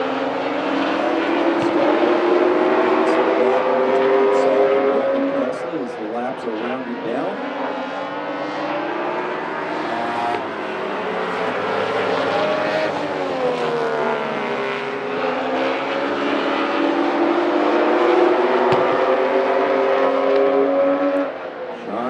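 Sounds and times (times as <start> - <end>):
race car engines passing: 0.0 - 22.0.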